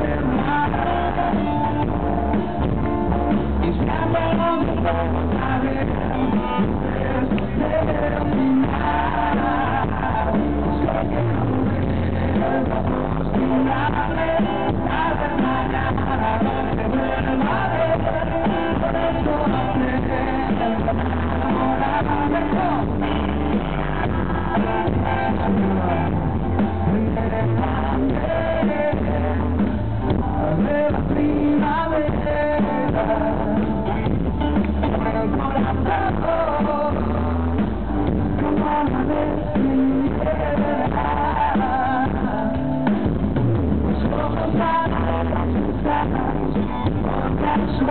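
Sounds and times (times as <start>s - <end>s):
drums: 0.0s - 47.9s
electric guitar: 0.0s - 47.9s
man singing into a microphone: 0.0s - 47.9s.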